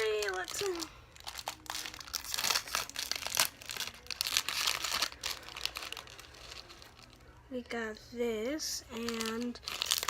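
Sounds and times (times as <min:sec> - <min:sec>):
plastic wrapping tearing and crinkling: 0:00.0 - 0:07.5, 0:08.8 - 0:10.0.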